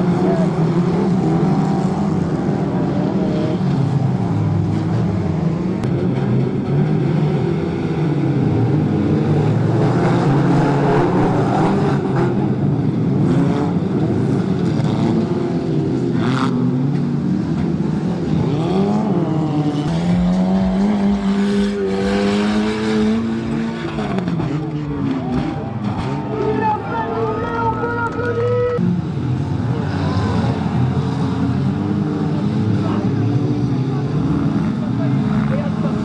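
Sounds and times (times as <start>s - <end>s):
race car engines revving: 0.0s - 36.0s.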